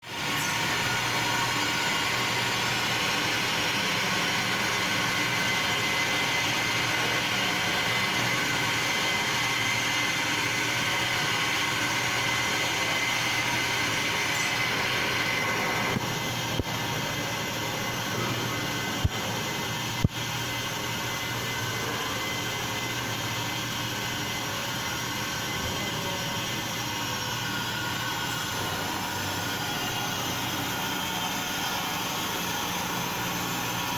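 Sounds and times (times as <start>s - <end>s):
machine tool running with whine: 0.0s - 33.9s.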